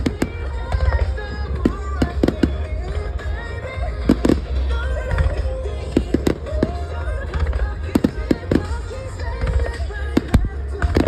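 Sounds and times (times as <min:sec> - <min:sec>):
background music: 0:00.0 - 0:11.0
fireworks bangs: 0:00.0 - 0:11.0.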